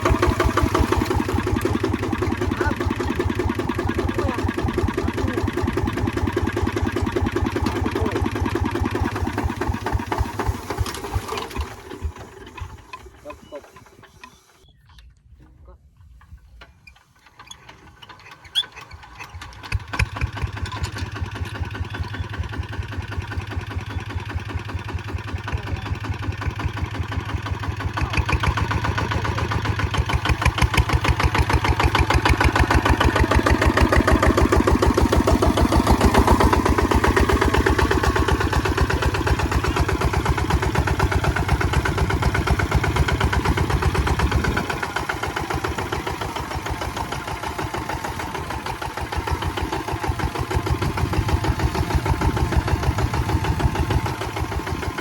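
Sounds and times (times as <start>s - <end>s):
diesel engine chugging: 0.0s - 14.7s, 16.9s - 55.0s.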